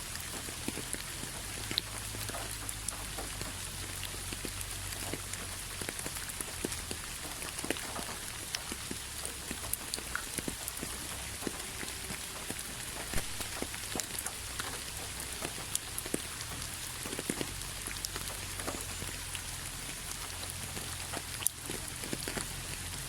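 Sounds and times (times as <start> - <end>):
raindrops ticking on a surface: 0.0 - 23.0
steady rainfall hiss: 0.0 - 23.0.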